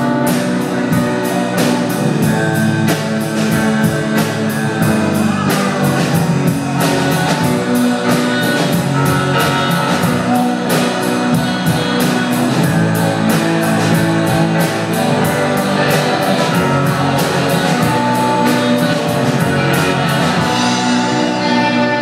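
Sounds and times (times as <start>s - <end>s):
drum kit: 0.0s - 22.0s
electric guitars sustained chords: 0.0s - 22.0s.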